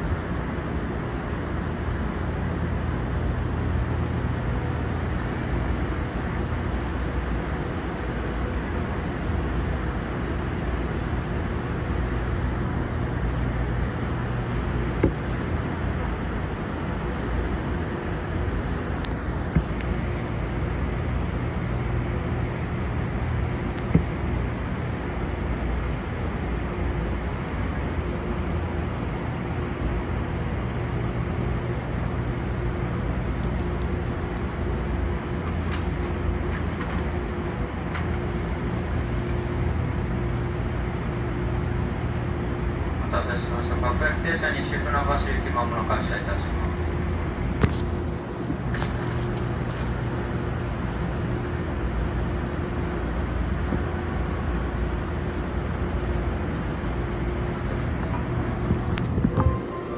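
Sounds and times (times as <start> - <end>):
train equipment humming: 0.0 - 59.9.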